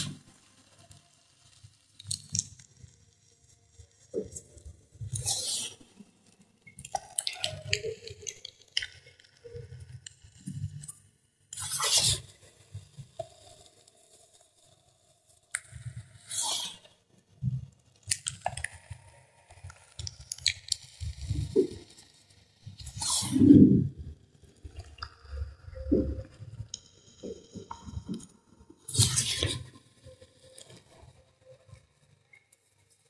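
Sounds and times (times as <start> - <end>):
soft powdery squishes: 0.0 - 10.9, 11.5 - 33.0.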